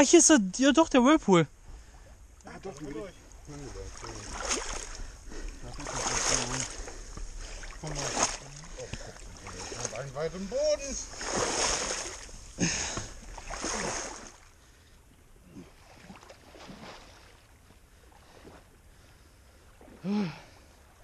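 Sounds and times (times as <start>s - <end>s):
water splashing from wading: 1.6s - 14.6s, 15.4s - 21.0s.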